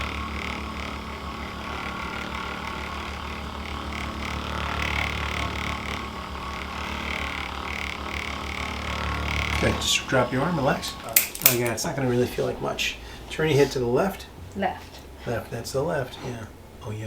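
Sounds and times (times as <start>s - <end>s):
massage machine motor humming: 0.0s - 17.0s.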